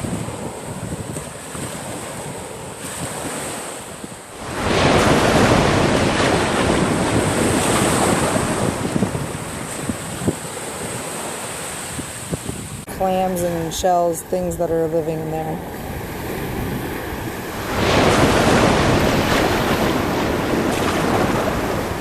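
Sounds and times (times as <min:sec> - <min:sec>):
surf washing up beach: 0:00.0 - 0:22.0
wind buffeting microphone: 0:00.0 - 0:22.0.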